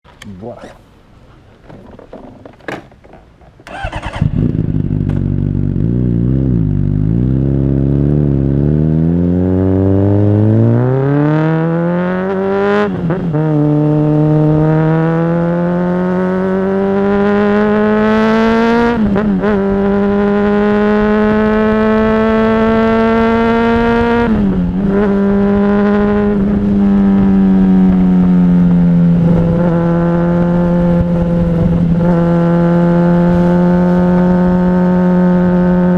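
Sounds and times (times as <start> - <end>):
motorcycle engine accelerating: 3.6 - 35.9.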